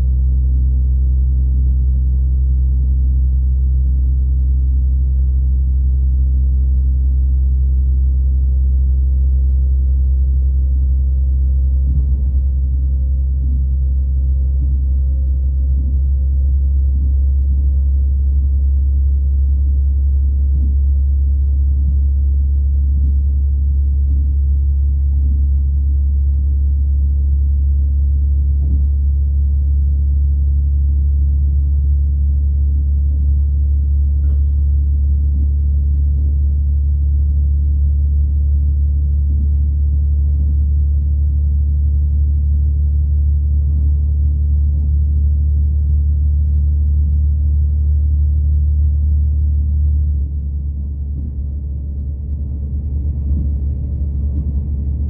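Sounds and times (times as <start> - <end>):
diesel train rumble: 0.0 - 55.0.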